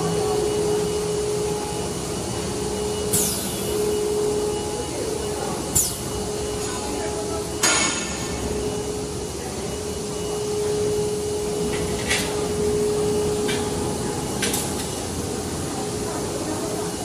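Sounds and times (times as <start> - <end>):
constant tone: 0.0 - 17.0
extrusion machine hum: 0.0 - 17.0.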